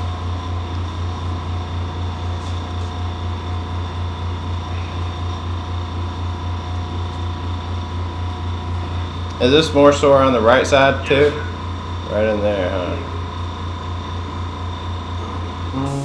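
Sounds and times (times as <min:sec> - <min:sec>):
pulsing low mechanical hum: 0:00.0 - 0:16.0.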